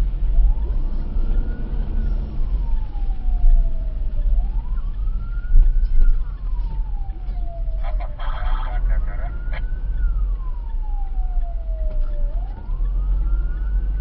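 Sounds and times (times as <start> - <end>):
vehicle and road rumble: 0.0 - 14.0
siren wailing: 0.4 - 14.0.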